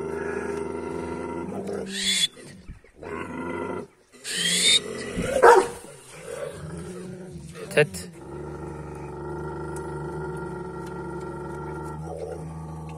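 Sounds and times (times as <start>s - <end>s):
dogs growling and snarling: 0.0s - 12.9s.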